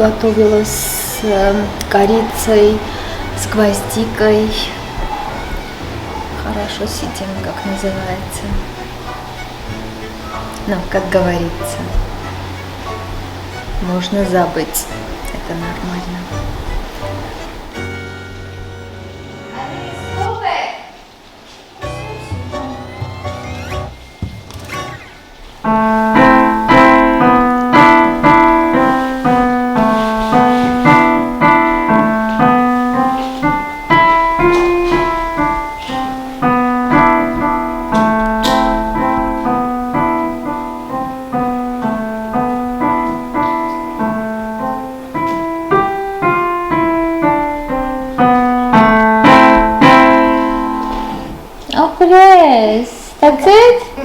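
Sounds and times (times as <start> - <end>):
piano playing: 0.0 - 20.7, 21.7 - 51.8.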